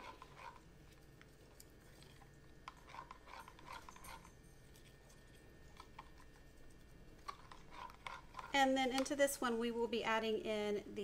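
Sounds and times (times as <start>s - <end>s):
plastic spoon stirring in pot: 0.0s - 9.3s.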